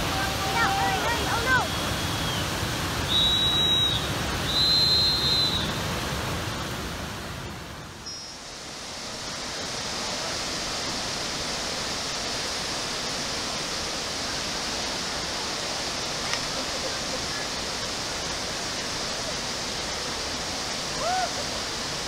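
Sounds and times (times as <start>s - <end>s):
whitewater rapids rushing: 0.0s - 22.0s.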